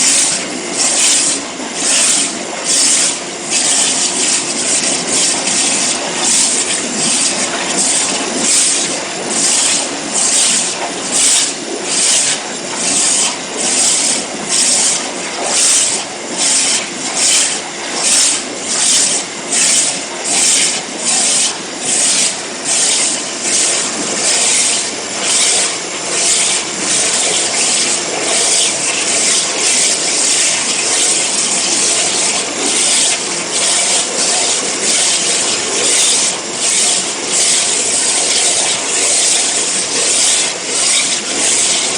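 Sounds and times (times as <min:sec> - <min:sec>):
waterjet cutter rasping hiss: 0:00.0 - 0:41.9.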